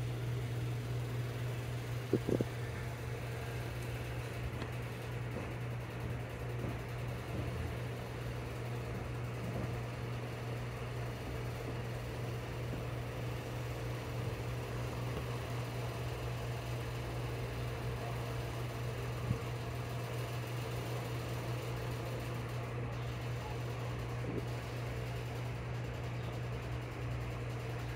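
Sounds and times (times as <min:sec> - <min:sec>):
low mechanical hum: 0:00.0 - 0:27.9.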